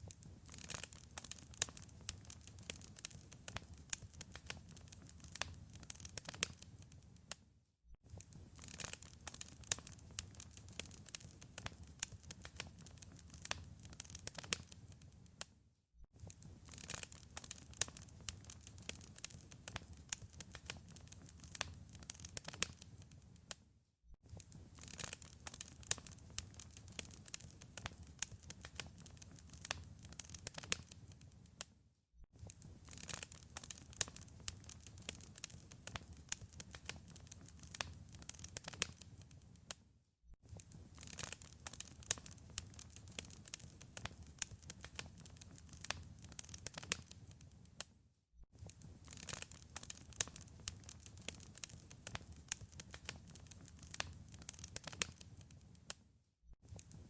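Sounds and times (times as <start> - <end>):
wood fire crackling: 0.0 - 7.4, 8.1 - 15.5, 16.2 - 23.5, 24.3 - 31.7, 32.4 - 39.7, 40.5 - 47.9, 48.6 - 55.9, 56.7 - 57.0.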